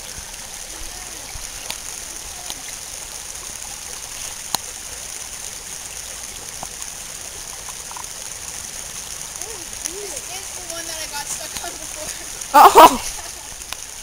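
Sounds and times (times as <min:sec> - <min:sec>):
stream running over stones: 0:00.0 - 0:14.0.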